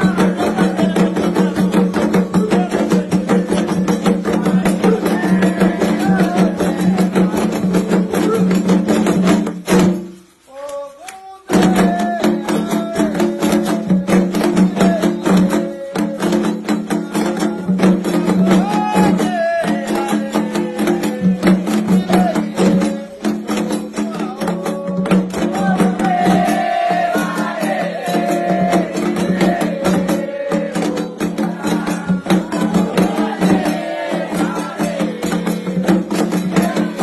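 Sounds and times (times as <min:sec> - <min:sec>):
voices singing: 0:00.0 - 0:09.6, 0:10.4 - 0:37.0
fast drumming: 0:00.0 - 0:37.0.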